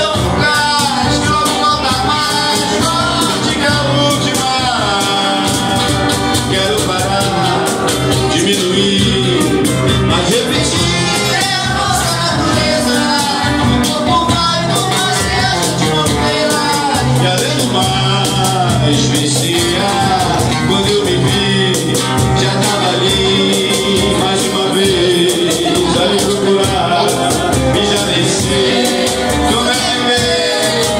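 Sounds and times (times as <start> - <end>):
person singing: 0.0 - 30.9
strummed acoustic guitars: 0.0 - 30.9.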